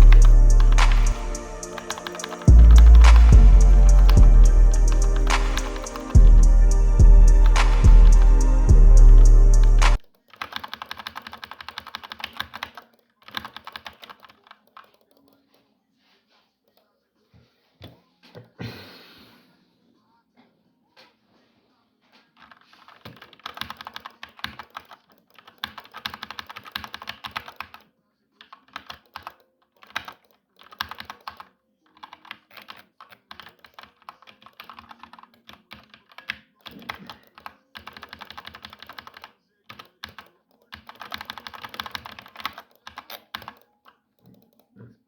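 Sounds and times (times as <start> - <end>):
keyboard typing: 0.0 - 15.6, 22.4 - 44.8.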